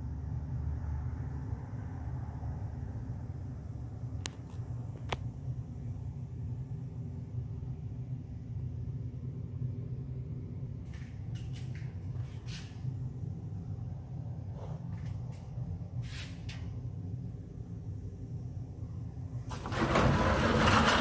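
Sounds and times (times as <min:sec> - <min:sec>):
steady low rumble: 0:00.0 - 0:19.5.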